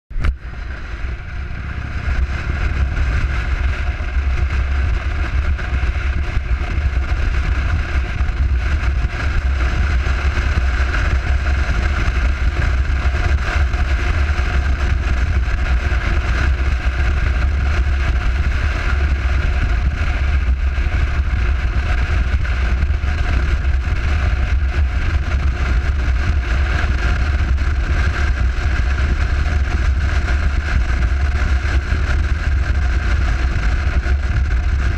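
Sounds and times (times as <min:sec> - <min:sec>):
motorcycle engine rumble: 0:00.1 - 0:34.9
wind rushing over microphone: 0:00.1 - 0:34.9.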